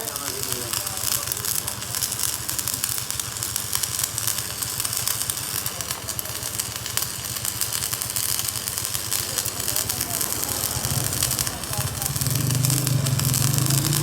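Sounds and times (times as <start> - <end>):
crackling hiss with ticks: 0.0 - 14.0
workshop machinery throbbing: 0.0 - 14.0.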